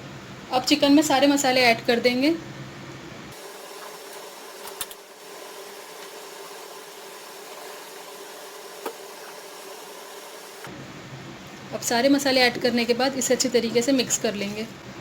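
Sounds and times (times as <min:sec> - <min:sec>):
fan hiss: 0:00.0 - 0:15.0.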